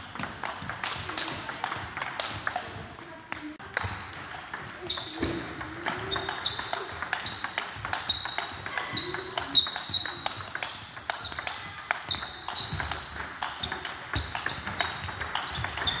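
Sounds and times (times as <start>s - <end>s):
table tennis ball hits: 0.0s - 16.0s.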